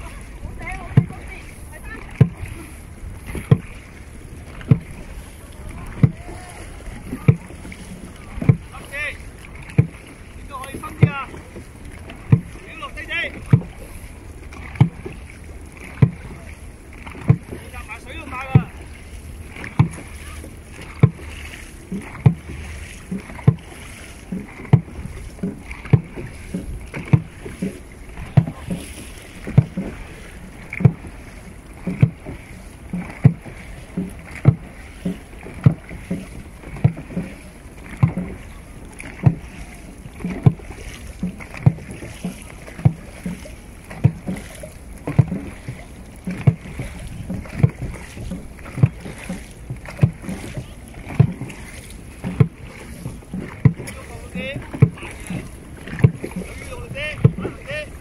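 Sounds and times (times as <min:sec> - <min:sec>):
drum beating low thumps: 0:00.0 - 0:58.0
paddles splashing: 0:00.0 - 0:58.0
water rushing along hull: 0:00.0 - 0:58.0.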